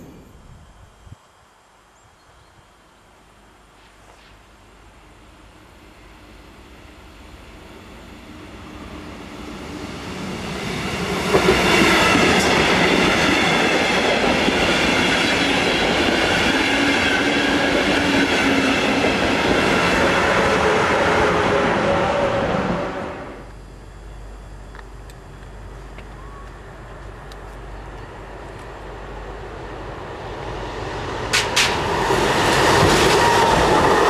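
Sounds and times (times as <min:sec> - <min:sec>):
passenger train passing: 0:04.9 - 0:34.0.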